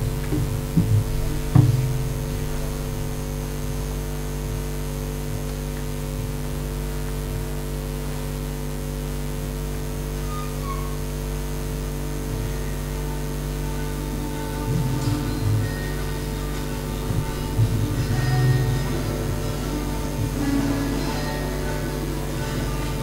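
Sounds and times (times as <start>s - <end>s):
constant hiss: 0.0s - 23.0s
electrical hum: 0.0s - 23.0s.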